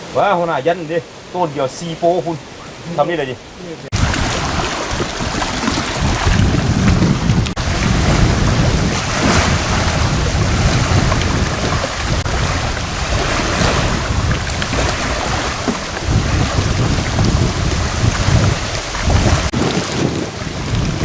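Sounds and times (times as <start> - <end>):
choppy river waves: 0.0 - 21.0
wind buffeting microphone: 0.0 - 21.0.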